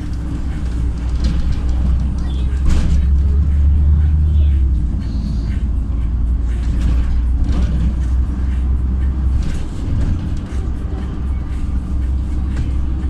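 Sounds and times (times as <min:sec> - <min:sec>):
bus engine low drone: 0:00.0 - 0:13.0.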